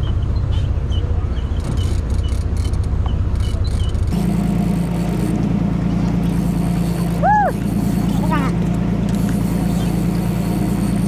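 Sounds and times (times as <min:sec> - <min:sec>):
engine running low rumble: 0:00.0 - 0:11.0.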